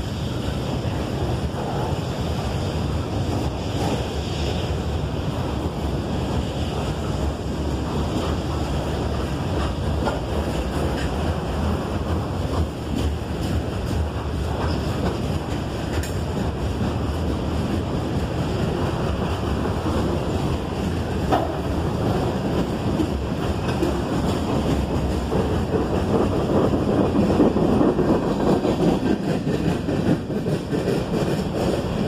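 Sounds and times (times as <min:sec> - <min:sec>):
freight train wheels rumbling on track: 0:00.0 - 0:32.0.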